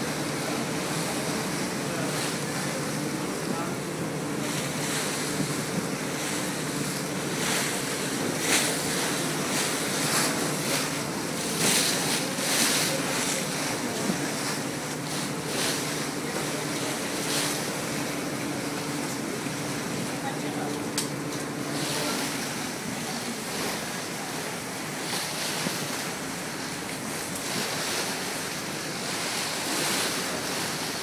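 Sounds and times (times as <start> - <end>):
boat engine running: 0.0 - 31.0
water rushing along hull: 0.0 - 31.0.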